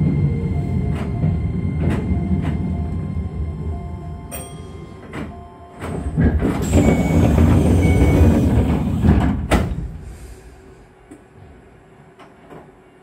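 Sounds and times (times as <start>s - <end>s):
train rumbling rush: 0.0s - 12.1s.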